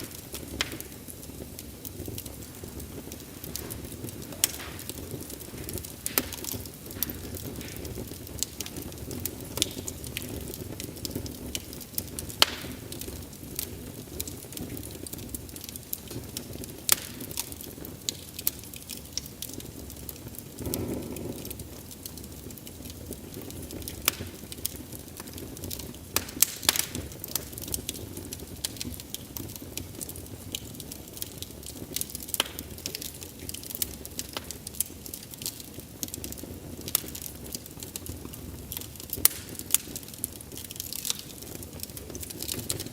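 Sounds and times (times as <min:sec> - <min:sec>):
low rush of burning: 0:00.0 - 0:42.9
wood fire crackling and popping: 0:00.0 - 0:42.9.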